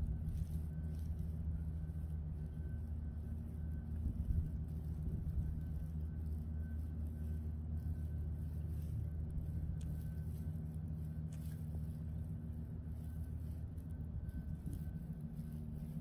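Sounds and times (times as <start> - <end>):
constant low hum: 0.0 - 16.0
low city rumble: 0.0 - 16.0.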